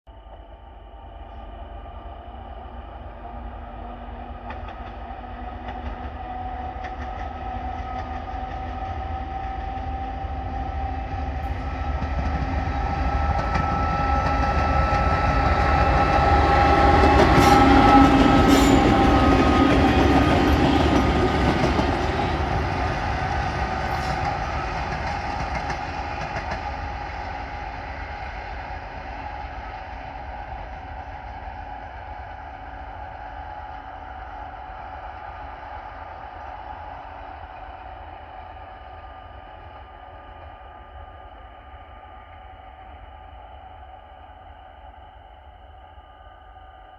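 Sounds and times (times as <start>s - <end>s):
diesel locomotive passing: 0.1s - 46.9s.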